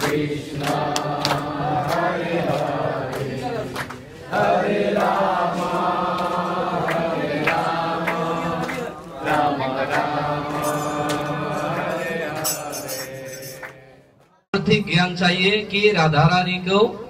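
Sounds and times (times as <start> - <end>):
congregation chanting in unison: 0.0 - 14.2.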